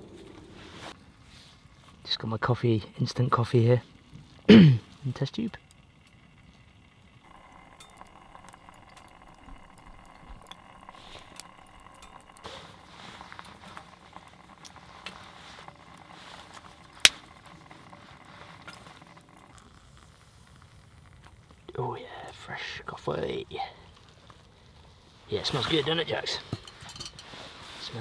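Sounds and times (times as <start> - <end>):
loud fire crack: 0.0 - 23.1
water heating hiss in metal mug: 0.0 - 28.0
wood fire crackling and popping: 0.0 - 28.0.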